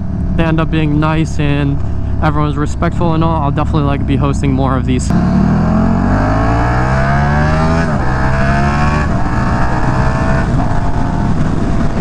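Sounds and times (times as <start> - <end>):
motorcycle engine accelerating: 0.0 - 12.0
wind noise: 0.0 - 12.0.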